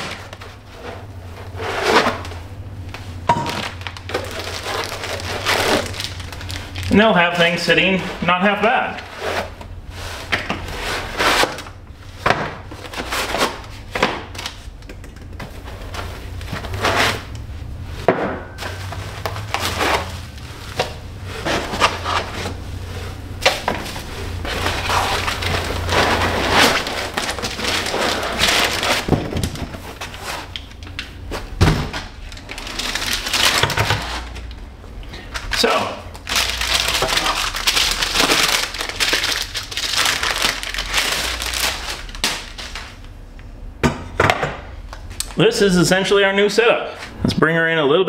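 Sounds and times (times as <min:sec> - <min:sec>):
packing materials rustling: 0:00.0 - 0:17.6, 0:18.5 - 0:43.1
low steady hum: 0:00.0 - 0:48.0.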